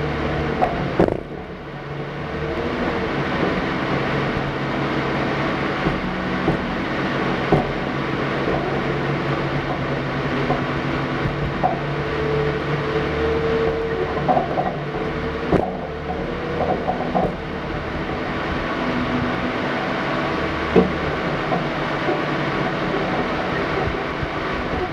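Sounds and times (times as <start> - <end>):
low uneven rumble: 0.0 - 24.9.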